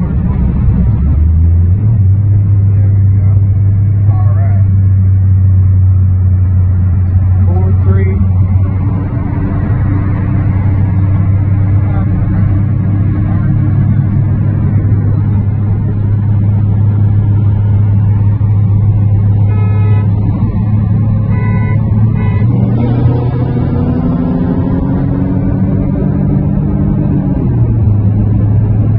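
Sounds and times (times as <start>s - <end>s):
car engine droning: 0.0s - 28.9s.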